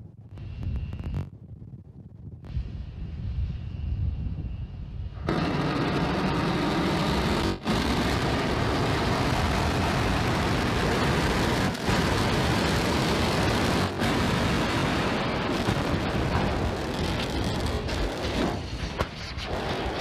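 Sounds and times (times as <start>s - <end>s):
rocket engines firing: 0.1s - 20.0s.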